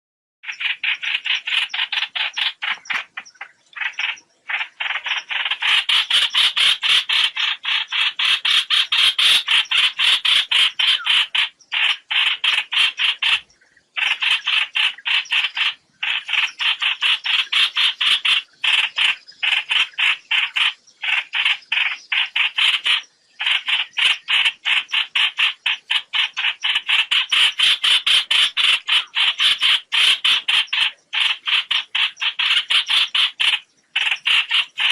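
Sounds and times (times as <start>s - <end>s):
bird flock call: 0.5s - 34.9s.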